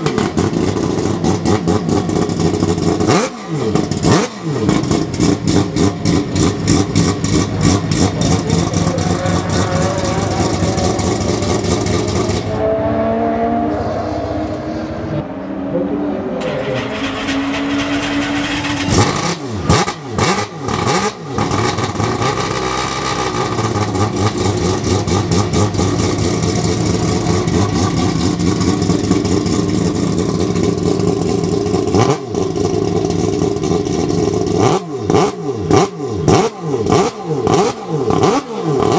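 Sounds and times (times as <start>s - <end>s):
rotary engine idling and revving: 0.0s - 38.9s.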